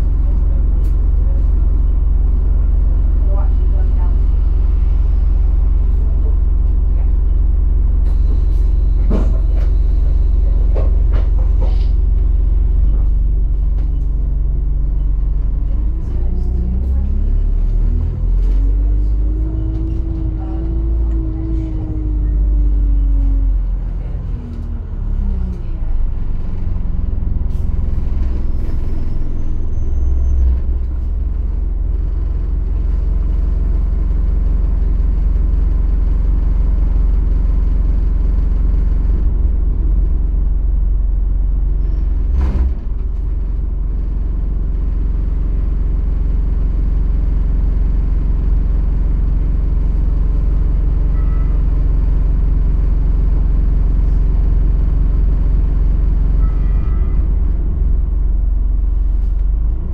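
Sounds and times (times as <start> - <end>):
bus diesel engine rumble: 0.0 - 59.9.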